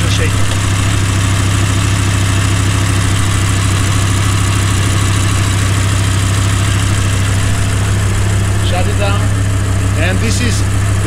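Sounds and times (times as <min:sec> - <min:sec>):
car engine idling with misfire: 0:00.0 - 0:11.0.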